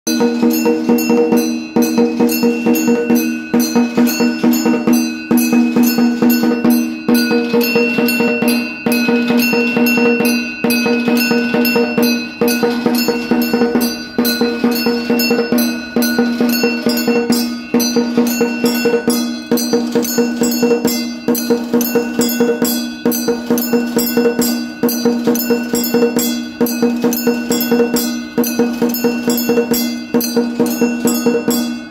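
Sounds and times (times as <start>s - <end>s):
temple bell rung rapidly: 0.1s - 31.9s.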